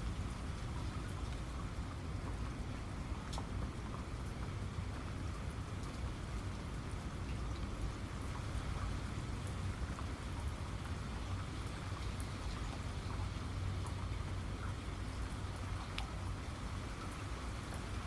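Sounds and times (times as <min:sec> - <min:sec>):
constant low rumble: 0:00.0 - 0:18.0
raindrops ticking: 0:00.0 - 0:18.0
steady rain falling: 0:00.0 - 0:18.0.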